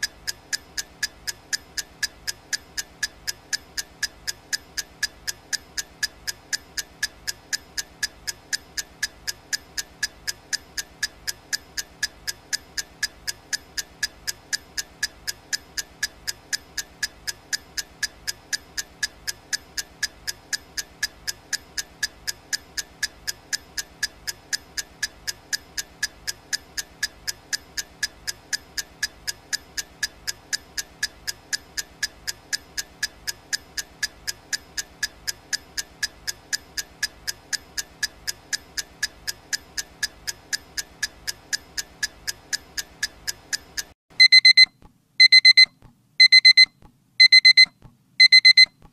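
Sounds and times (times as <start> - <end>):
clock ticking: 0.0 - 48.8.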